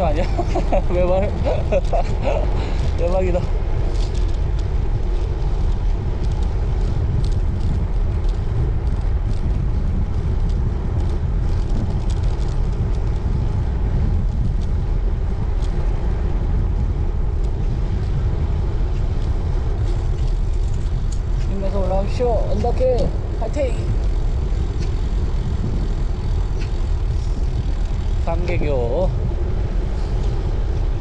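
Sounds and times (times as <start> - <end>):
bike tyre noise: 0.0 - 31.0
wind buffeting microphone: 0.0 - 31.0.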